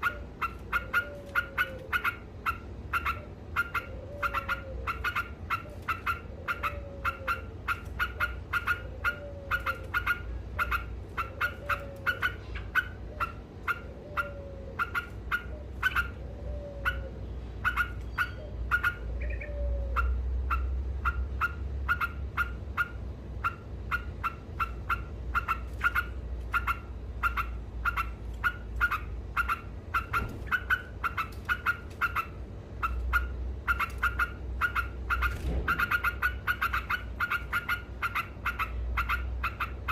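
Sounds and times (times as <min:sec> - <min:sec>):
bird rapid chattering call: 0:00.0 - 0:39.9.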